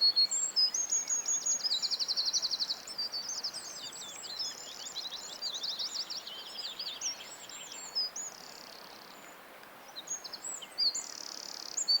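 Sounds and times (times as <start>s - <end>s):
faint background hiss: 0.0s - 12.0s
songbirds singing and chirping: 0.0s - 12.0s.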